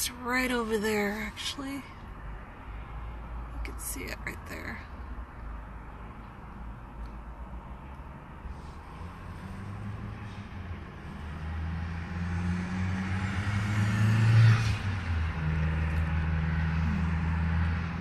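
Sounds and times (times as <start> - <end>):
low engine hum: 0.0 - 18.0
vehicle passing: 1.0 - 18.0.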